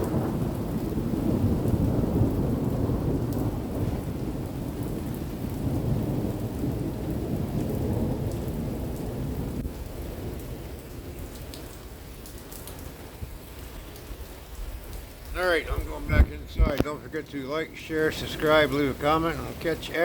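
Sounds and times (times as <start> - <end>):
raindrop ticks: 0.0 - 20.0
steady rain: 0.0 - 20.0
thunder rumbling: 0.0 - 20.0.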